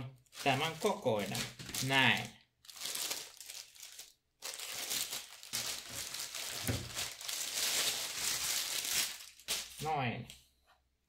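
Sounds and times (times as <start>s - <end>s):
plastic bag crinkling: 0.2s - 9.8s.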